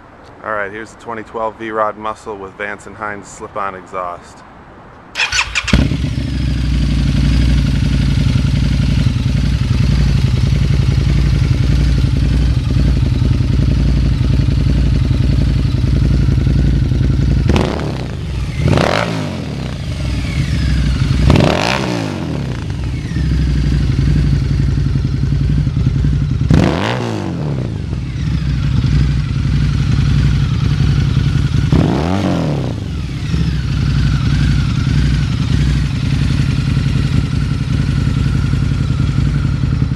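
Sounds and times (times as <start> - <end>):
motorcycle engine idling and revving: 5.2 - 39.9.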